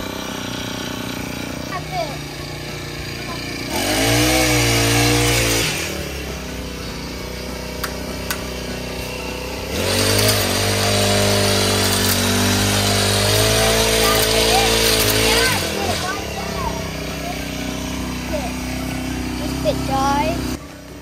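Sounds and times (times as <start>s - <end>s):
small motor running: 0.0s - 21.0s.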